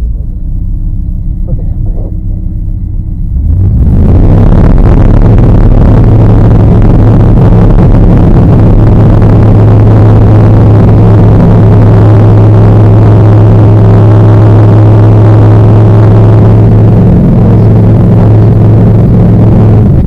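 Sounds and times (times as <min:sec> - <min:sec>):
aircraft engine at full throttle: 0:01.2 - 0:20.0.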